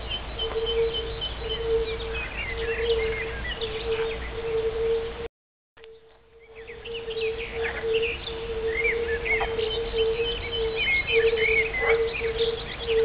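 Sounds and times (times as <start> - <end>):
songbirds chirping and warbling: 0.0 - 13.0
toads hooting: 0.0 - 13.0.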